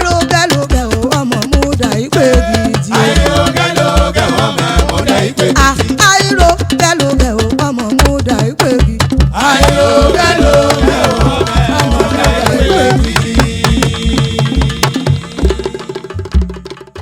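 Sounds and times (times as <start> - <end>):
hand drums beating: 0.0 - 17.0.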